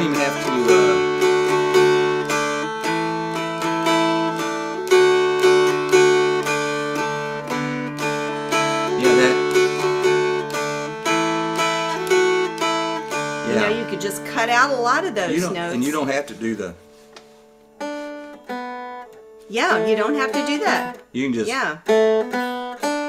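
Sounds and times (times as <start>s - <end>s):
dulcimers strummed: 0.0s - 23.0s.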